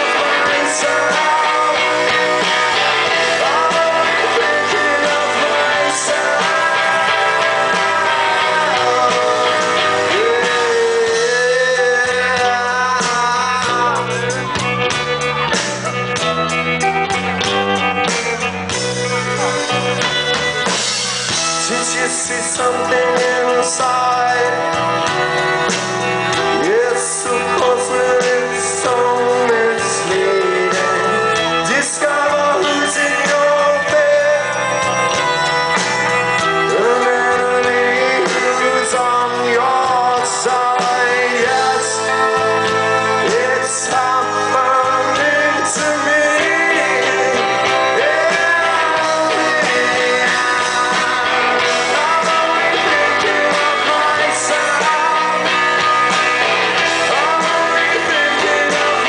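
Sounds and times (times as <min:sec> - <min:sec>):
person singing: 0:00.0 - 0:18.5, 0:19.1 - 0:59.0
bass guitar: 0:00.0 - 0:59.0
drums: 0:00.0 - 0:59.0
electric guitars: 0:00.0 - 0:59.0.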